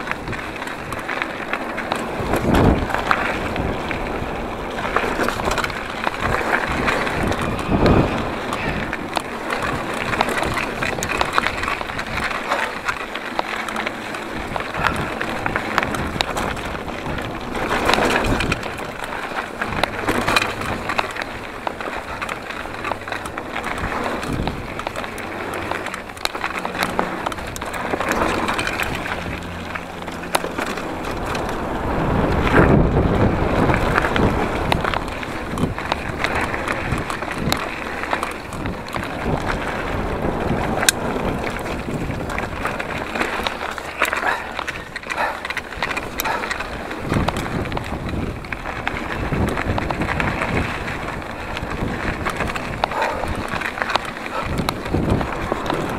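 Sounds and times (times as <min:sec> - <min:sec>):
bike rattling and clicking: 0:00.0 - 0:55.9
bike tyres grinding over dirt: 0:00.0 - 0:55.9
wind rushing past microphone: 0:00.0 - 0:55.9.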